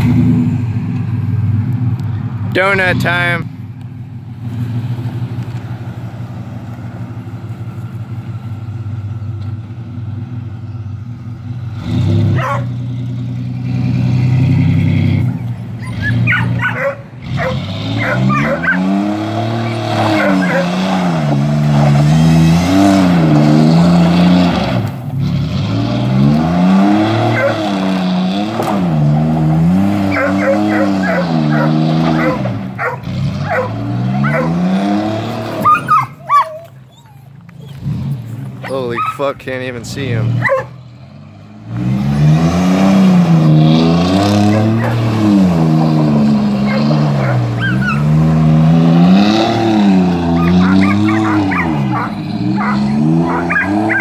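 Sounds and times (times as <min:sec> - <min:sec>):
truck engine idling and revving: 0:00.0 - 0:54.0.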